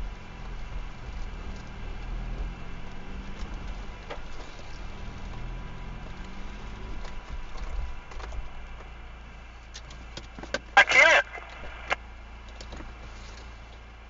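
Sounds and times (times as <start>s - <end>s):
vehicle engine at low revs: 0.0s - 14.0s.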